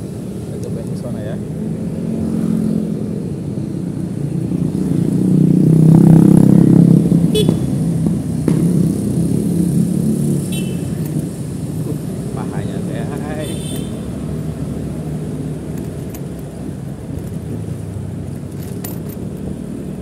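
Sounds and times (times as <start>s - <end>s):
motorbike engines and traffic: 0.0s - 20.0s.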